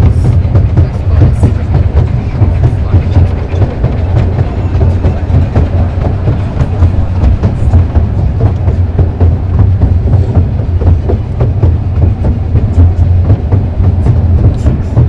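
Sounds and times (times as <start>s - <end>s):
model train rumbling: 0.0s - 15.0s
wheels clicking on rails: 0.0s - 15.0s.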